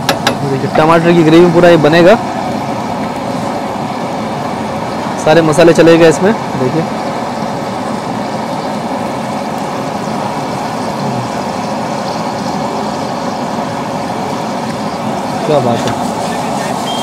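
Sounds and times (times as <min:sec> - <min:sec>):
busy kitchen roar: 0:00.0 - 0:17.0.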